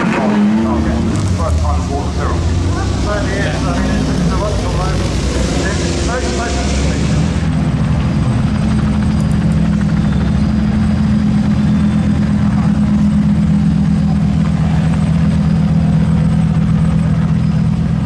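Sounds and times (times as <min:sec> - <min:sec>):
car engine droning at low revs: 0:00.0 - 0:18.0.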